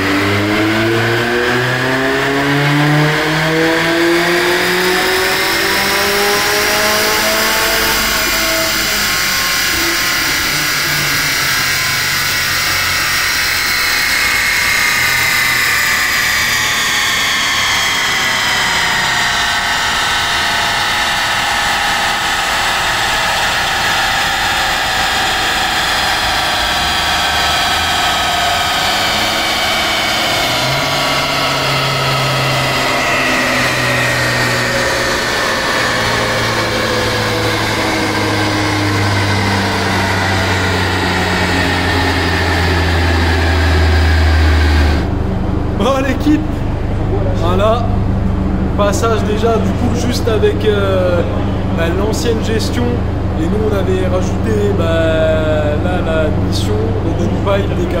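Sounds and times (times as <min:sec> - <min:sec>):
drivetrain mechanical whine: 0:00.0 - 0:58.0
low engine note: 0:00.0 - 0:58.0.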